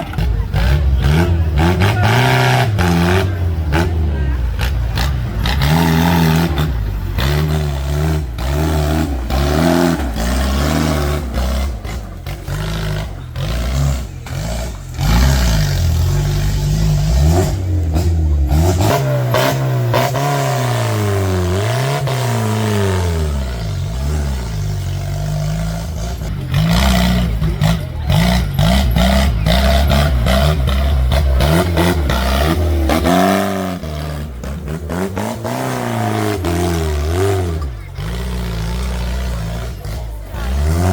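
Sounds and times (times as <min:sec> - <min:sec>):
tractor diesel engines revving: 0:00.0 - 0:40.9.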